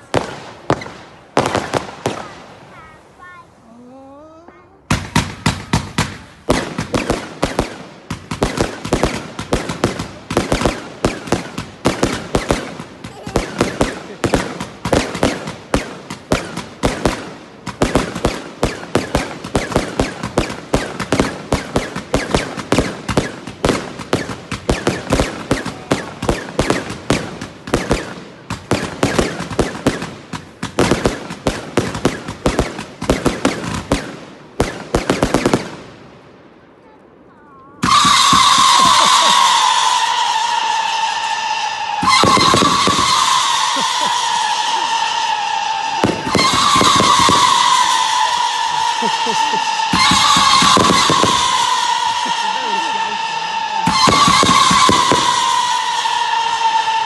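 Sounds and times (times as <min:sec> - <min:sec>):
fireworks banging: 0:00.0 - 0:03.7, 0:04.3 - 0:57.0.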